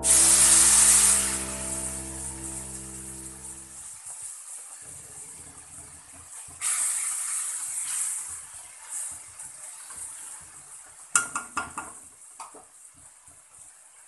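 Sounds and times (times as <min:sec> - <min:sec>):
liquid sizzling in a wok: 0:00.0 - 0:14.0.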